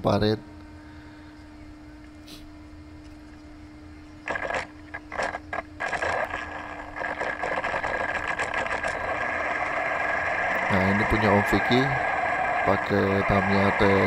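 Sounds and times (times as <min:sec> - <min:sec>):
electric motor whining: 0:01.4 - 0:14.0.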